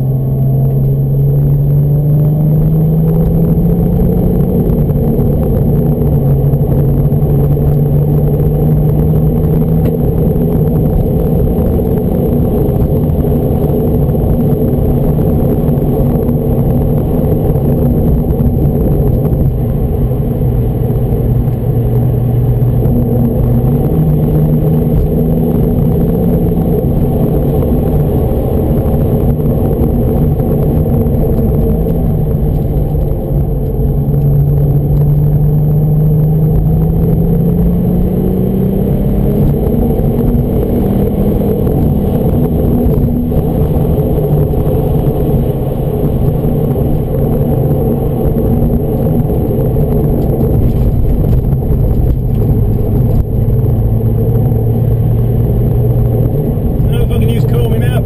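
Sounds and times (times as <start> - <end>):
car engine from inside cabin: 0.0 - 58.0
road rumble: 0.0 - 58.0.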